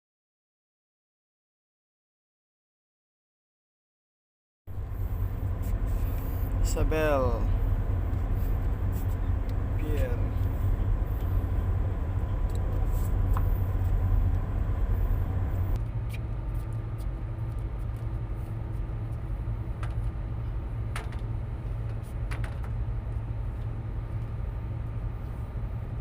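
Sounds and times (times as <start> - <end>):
boat engine droning: 4.7 - 26.0.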